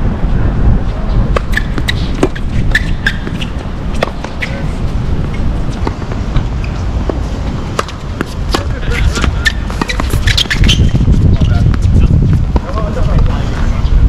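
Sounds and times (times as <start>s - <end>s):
steady low rumble: 0.0s - 14.0s
tennis balls struck and bouncing: 1.3s - 13.4s.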